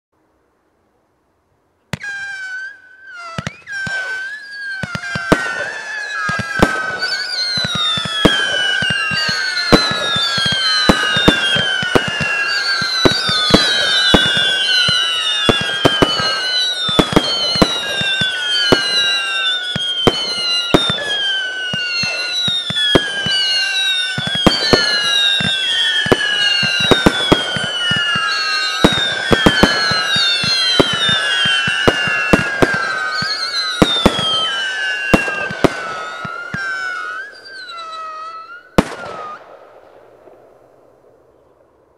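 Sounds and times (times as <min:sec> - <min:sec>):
firework bangs: 0:01.9 - 0:41.2
whistling firework shots: 0:01.9 - 0:41.8.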